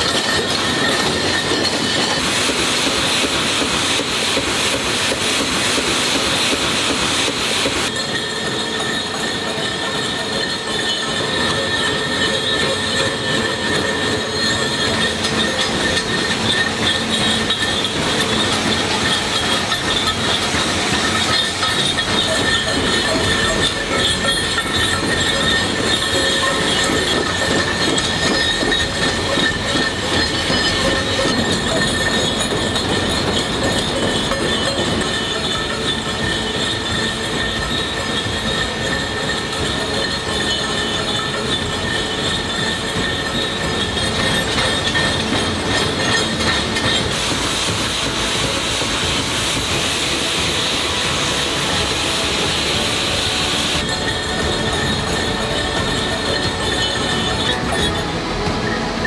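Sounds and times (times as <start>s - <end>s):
heavy industrial machinery running: 0.0s - 59.0s.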